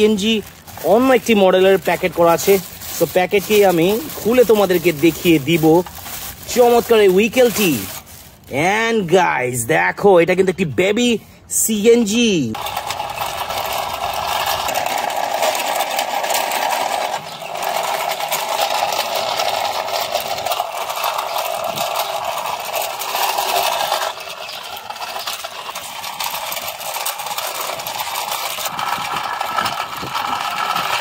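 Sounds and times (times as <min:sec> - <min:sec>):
plastic packaging crinkling: 0:00.0 - 0:08.6, 0:12.6 - 0:31.0.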